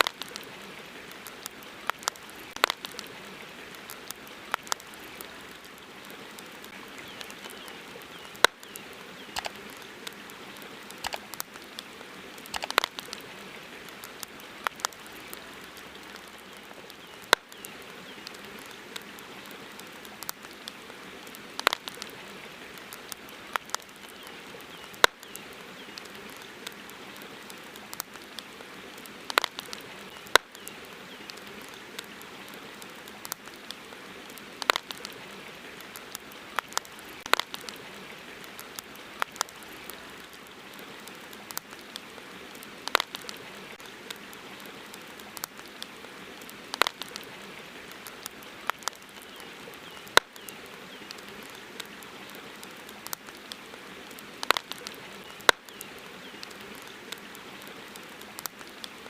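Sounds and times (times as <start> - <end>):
river water rushing: 0.0 - 55.2
campfire crackling and popping: 0.0 - 59.0.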